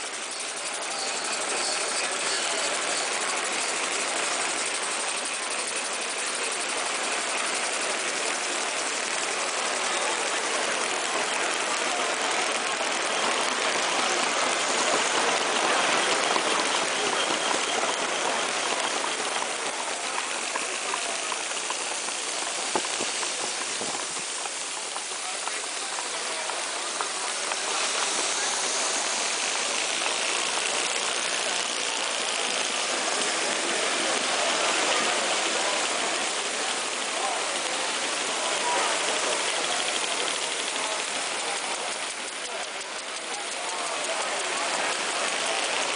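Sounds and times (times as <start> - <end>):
engines clattering: 0.0 - 45.9
model steam engines hissing: 0.0 - 45.9.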